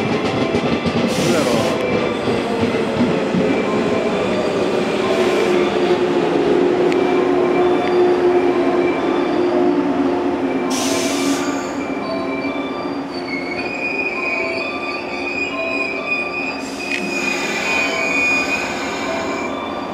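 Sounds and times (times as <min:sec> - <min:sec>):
train wheels squealing: 0:00.0 - 0:06.4, 0:07.0 - 0:19.9
train rolling with rumble: 0:00.0 - 0:19.9.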